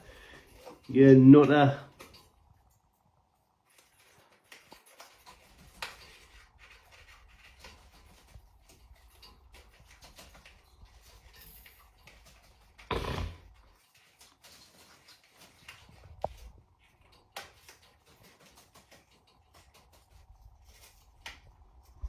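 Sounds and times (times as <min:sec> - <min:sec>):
parrot chewing cardboard: 0:00.0 - 0:22.0.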